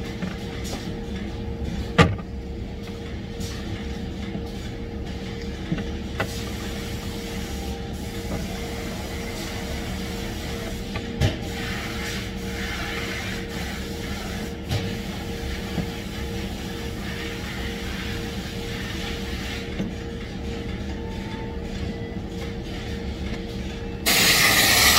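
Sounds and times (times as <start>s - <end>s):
factory machinery hum: 0.0s - 24.9s.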